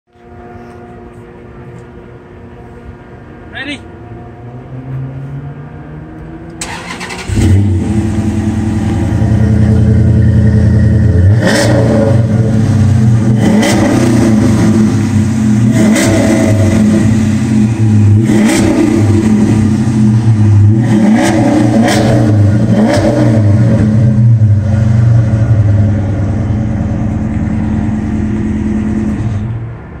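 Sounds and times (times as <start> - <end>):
car engine idling and revving: 0.1 - 30.0.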